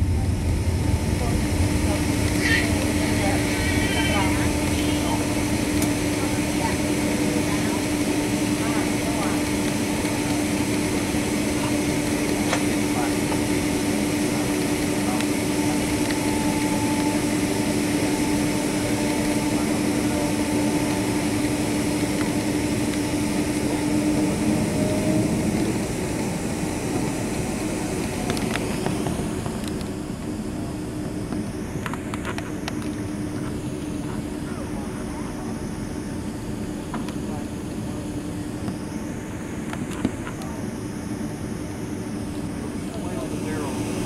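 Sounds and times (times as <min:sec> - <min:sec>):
jet engines idling: 0:00.0 - 0:44.0
low hum: 0:00.0 - 0:44.0.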